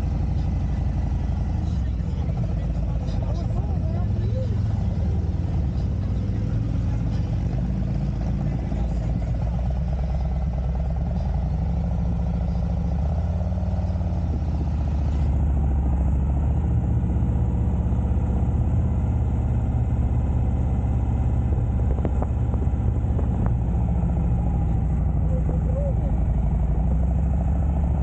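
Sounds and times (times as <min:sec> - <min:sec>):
motorcycle engine rumbling: 0:00.0 - 0:28.0.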